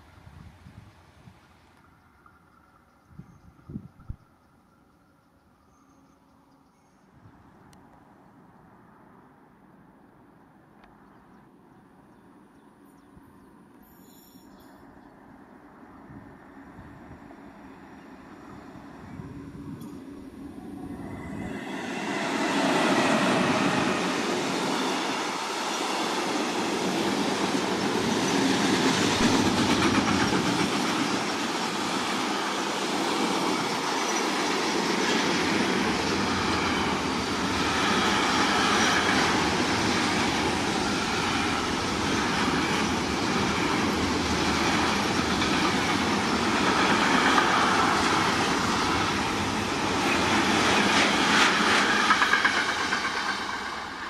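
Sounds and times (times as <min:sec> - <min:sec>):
train passing close by: 0:00.0 - 0:09.9, 0:11.3 - 0:54.0.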